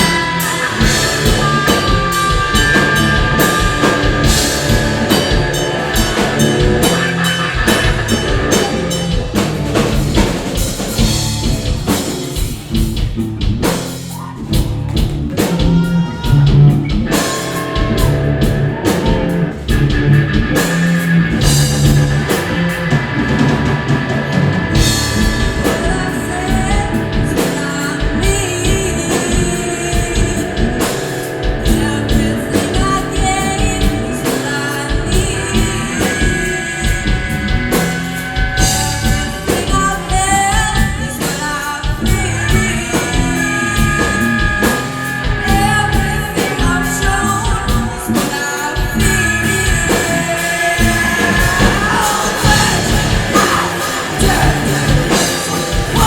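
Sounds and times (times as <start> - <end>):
person singing: 0.0 - 12.2, 15.3 - 56.0
drum kit: 0.0 - 56.0
guitar: 0.0 - 56.0.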